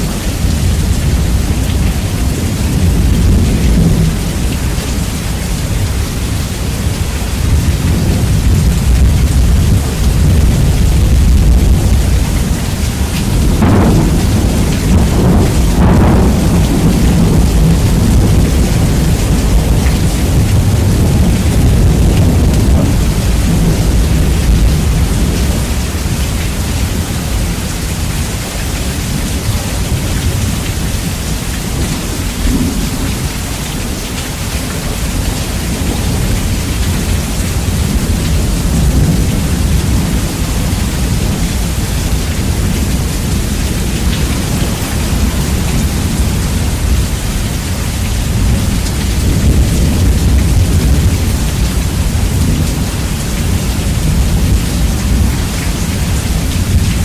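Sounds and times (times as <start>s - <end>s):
heavy rain: 0.0s - 57.0s
rolling thunder: 0.0s - 57.0s.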